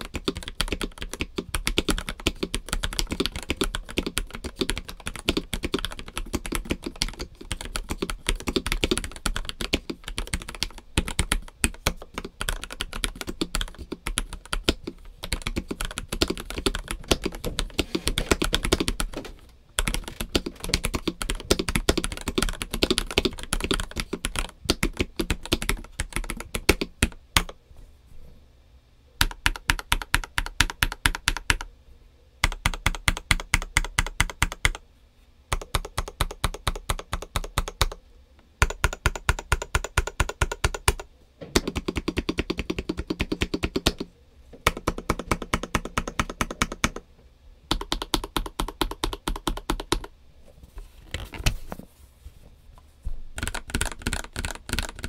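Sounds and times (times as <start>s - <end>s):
mechanical keyboard typing: 0.0s - 27.6s, 29.2s - 31.7s, 32.4s - 34.8s, 35.5s - 38.0s, 38.6s - 47.0s, 47.7s - 50.1s, 53.4s - 55.0s.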